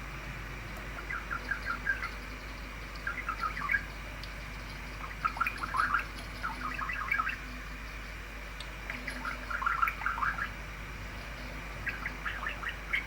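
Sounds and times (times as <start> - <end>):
budgerigar chattering: 0.9 - 4.0, 4.6 - 8.1, 8.9 - 13.0.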